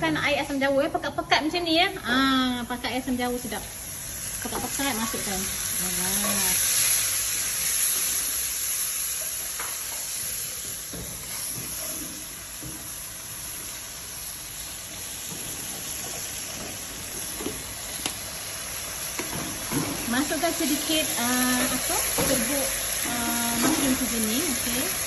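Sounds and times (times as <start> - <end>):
liquid sizzling in hot wok: 0.0 - 25.0.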